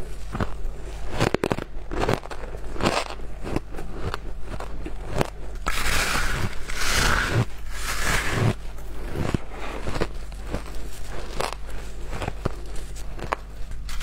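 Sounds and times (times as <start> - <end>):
crunching shaved ice: 0.0 - 14.0.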